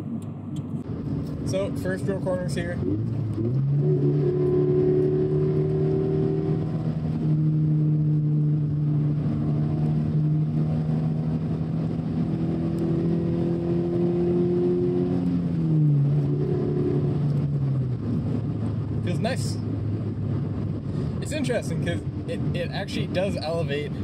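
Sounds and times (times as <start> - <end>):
car engine droning: 0.0 - 24.0
road noise: 0.0 - 24.0.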